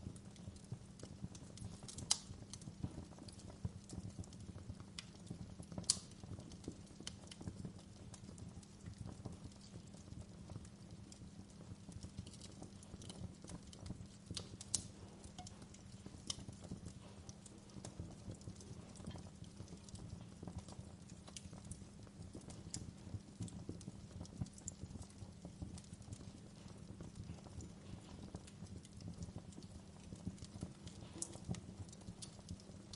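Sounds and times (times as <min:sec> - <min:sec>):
fire pops and snaps: 0:00.0 - 0:32.9
flames rumbling: 0:00.0 - 0:32.9.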